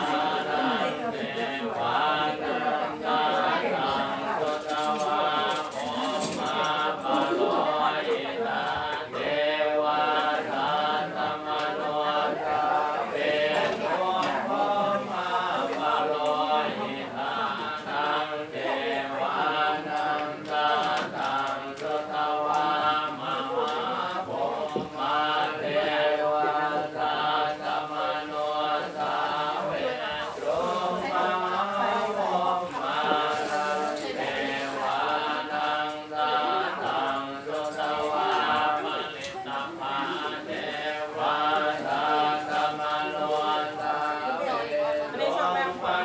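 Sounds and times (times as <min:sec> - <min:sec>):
voices chanting together: 0:00.0 - 0:46.0.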